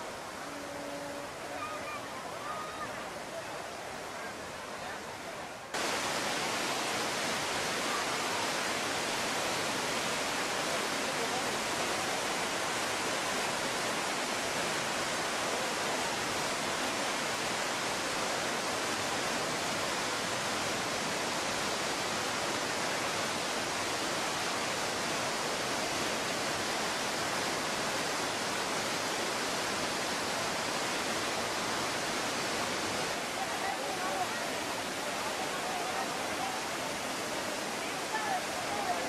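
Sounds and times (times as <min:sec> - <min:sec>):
waterfall splashing into water: 0:05.7 - 0:39.0.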